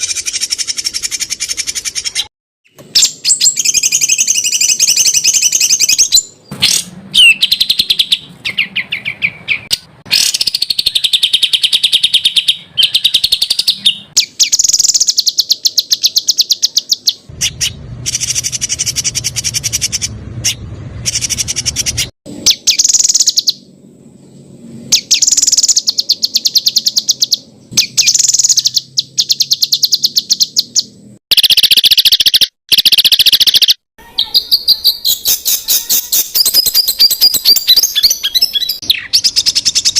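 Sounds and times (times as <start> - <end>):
songbird chattering and trilling: 0.0 - 39.9.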